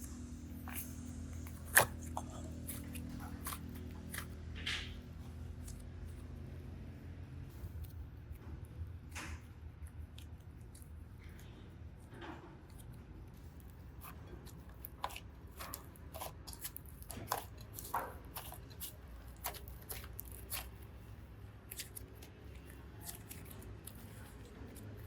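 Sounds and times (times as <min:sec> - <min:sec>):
modelling clay clicks and crackles: 0:00.0 - 0:25.0.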